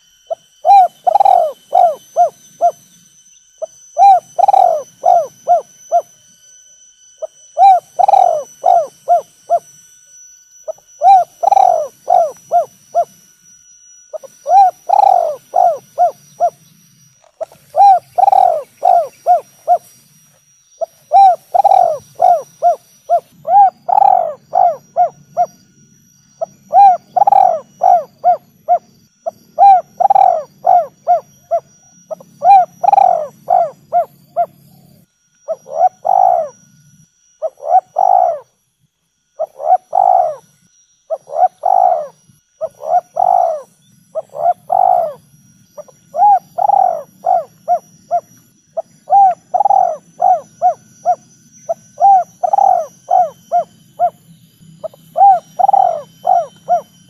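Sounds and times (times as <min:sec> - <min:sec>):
dove cooing: 0:00.0 - 0:02.9, 0:03.6 - 0:06.2, 0:07.2 - 0:09.7, 0:10.7 - 0:13.2, 0:14.1 - 0:16.6, 0:17.2 - 0:20.0, 0:20.8 - 0:25.6, 0:26.4 - 0:36.6, 0:37.4 - 0:38.5, 0:39.4 - 0:40.5, 0:41.1 - 0:45.2, 0:45.8 - 0:54.2, 0:54.8 - 0:57.0.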